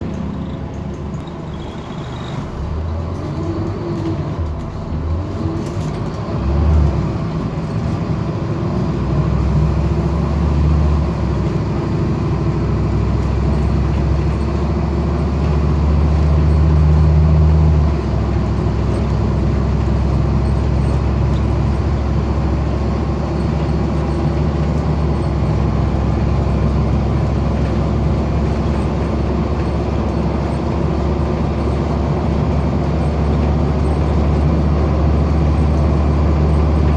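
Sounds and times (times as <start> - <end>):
bus engine revving high: 0.0 - 36.9.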